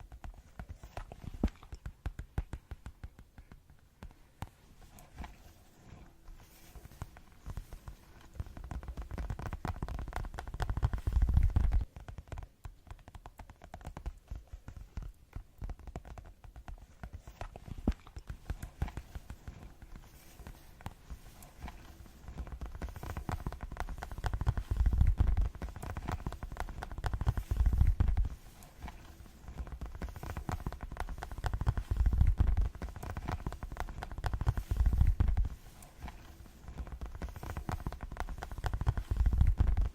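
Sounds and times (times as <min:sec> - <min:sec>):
rapid tapping: 0:00.0 - 0:39.9.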